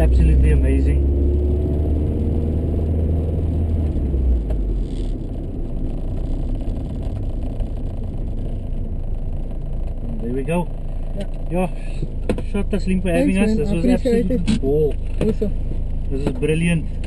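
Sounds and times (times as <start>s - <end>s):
car engine droning: 0.0s - 17.0s
road noise: 0.0s - 17.0s.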